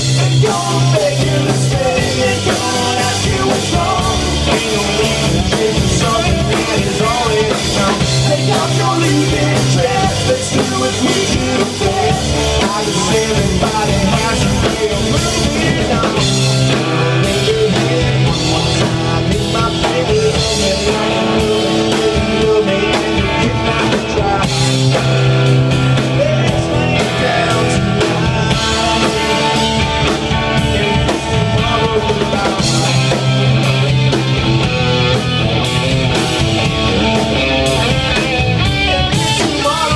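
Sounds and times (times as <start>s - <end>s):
man singing: 0.0s - 34.9s, 36.9s - 39.9s
rock band playing: 0.0s - 39.9s.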